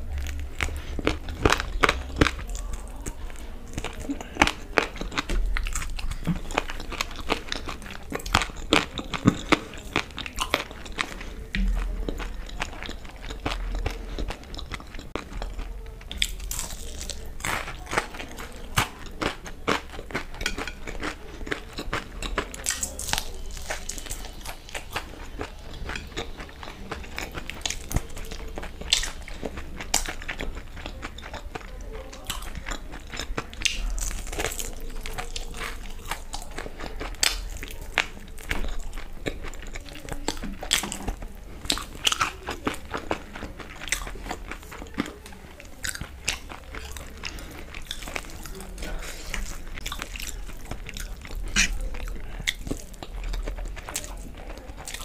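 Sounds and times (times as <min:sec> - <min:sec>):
chewing crunches: 0:00.0 - 0:55.0.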